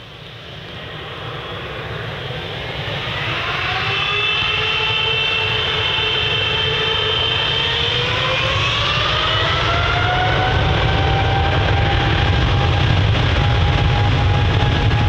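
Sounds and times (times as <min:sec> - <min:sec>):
jet engines spooling up: 0:00.0 - 0:15.0.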